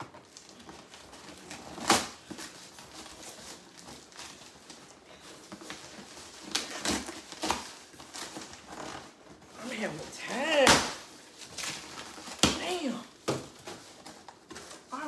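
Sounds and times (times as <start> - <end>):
packing rustling: 0.0 - 15.0.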